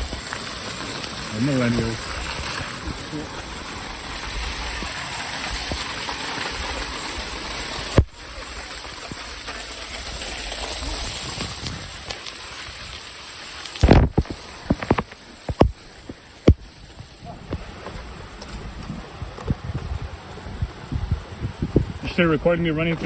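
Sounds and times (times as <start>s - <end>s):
heavy rain and rushing runoff: 0.0s - 23.0s.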